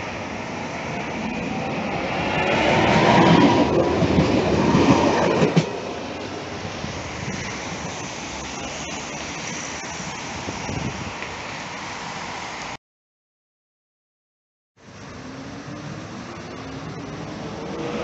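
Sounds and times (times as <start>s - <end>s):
tram wheels rumbling on rails: 0.0s - 12.7s, 14.8s - 18.0s
tram whine: 0.0s - 12.8s, 14.8s - 18.0s.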